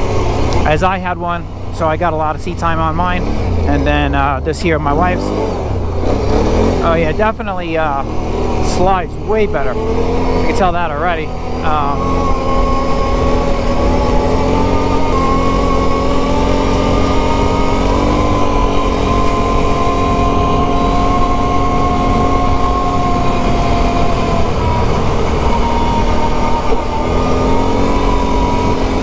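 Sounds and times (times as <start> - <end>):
quad engine running: 0.0 - 29.0.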